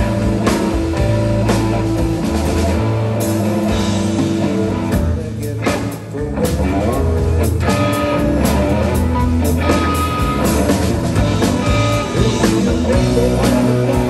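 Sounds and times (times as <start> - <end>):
blues rock band playing: 0.0 - 14.0
heavy bass line: 0.0 - 14.0.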